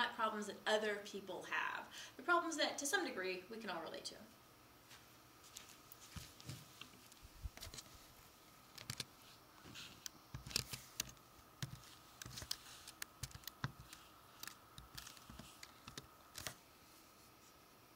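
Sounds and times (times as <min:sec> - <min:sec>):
faint high-pitched hum: 0:00.0 - 0:17.9.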